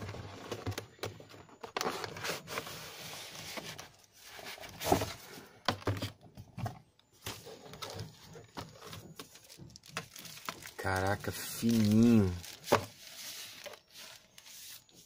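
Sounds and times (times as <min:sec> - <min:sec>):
cardboard box rustling: 0:00.0 - 0:15.0.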